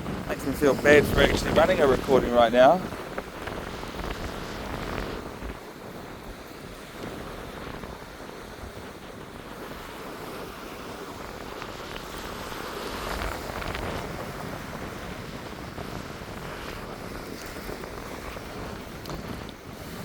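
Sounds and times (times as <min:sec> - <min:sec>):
surf washing on beach: 0:00.0 - 0:20.0
wind buffeting microphone: 0:00.0 - 0:20.0.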